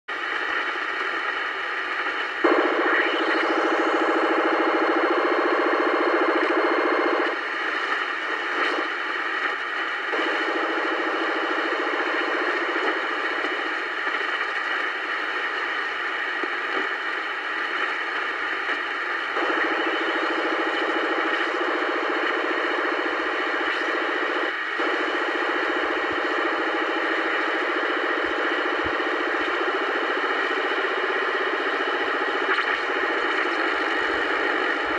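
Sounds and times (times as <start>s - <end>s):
pulsing radio buzz: 0.2s - 34.9s.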